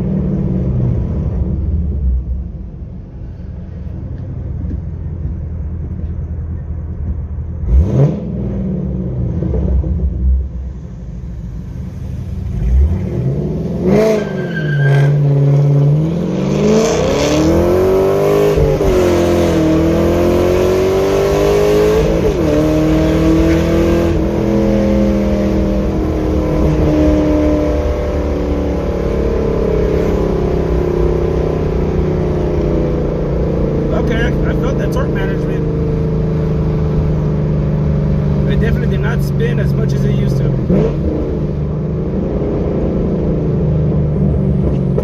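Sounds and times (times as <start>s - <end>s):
car engine revving at full throttle: 7.5s - 45.0s.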